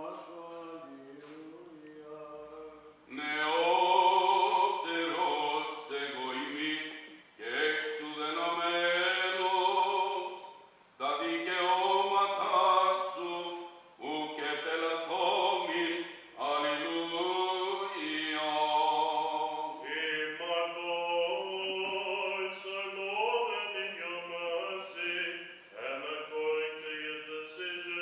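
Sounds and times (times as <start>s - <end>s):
man singing chant: 0.0s - 28.0s.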